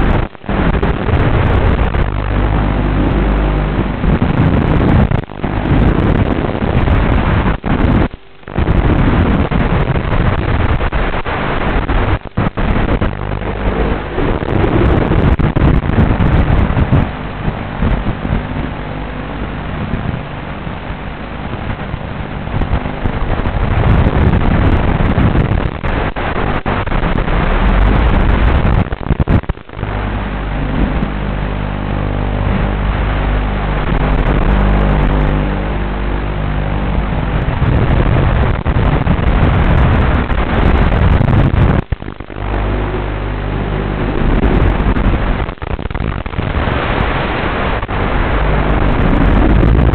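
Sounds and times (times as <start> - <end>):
drone motors and propellers: 0.0 - 49.9.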